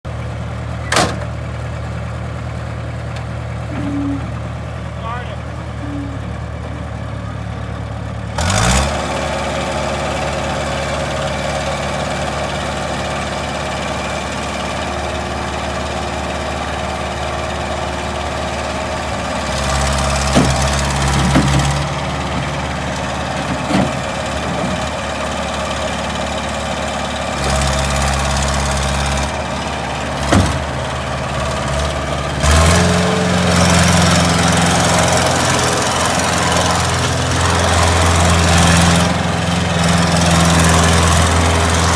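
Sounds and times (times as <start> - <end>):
diesel engine idling and revving: 0.0 - 41.9.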